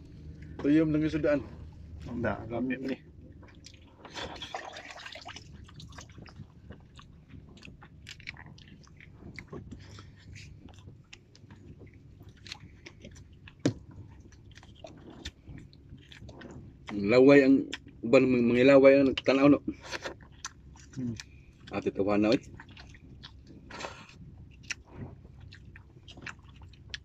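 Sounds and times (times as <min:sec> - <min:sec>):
man chewing with wet clicks: 0:00.0 - 0:00.6, 0:02.7 - 0:27.0.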